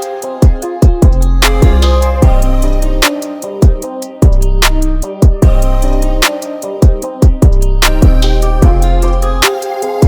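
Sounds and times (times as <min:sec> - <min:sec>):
background music with booming kick drums: 0:00.0 - 0:09.5.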